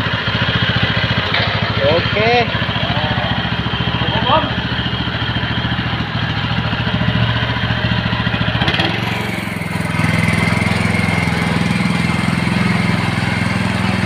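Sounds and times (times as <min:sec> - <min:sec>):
riding lawn mower engine: 0:00.0 - 0:14.0.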